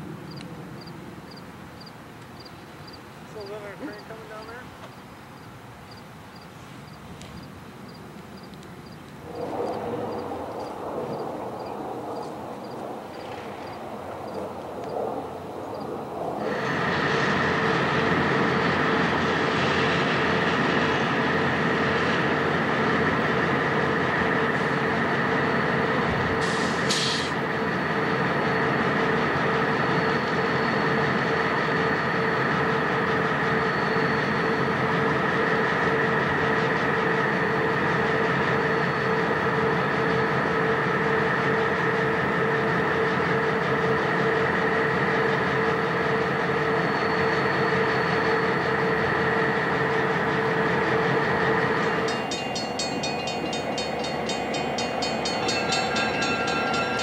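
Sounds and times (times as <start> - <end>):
locomotive engines droning: 0.0 - 57.0.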